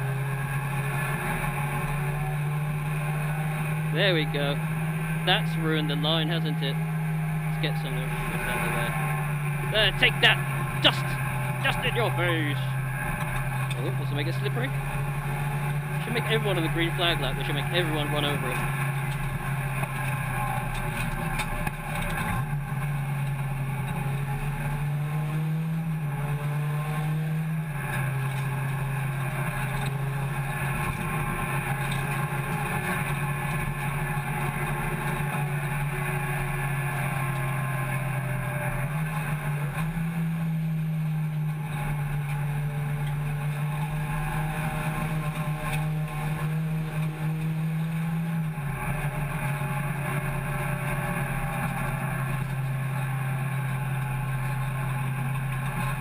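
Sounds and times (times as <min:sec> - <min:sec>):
car engine droning: 0:00.0 - 0:56.0
road and wind noise: 0:00.0 - 0:56.0.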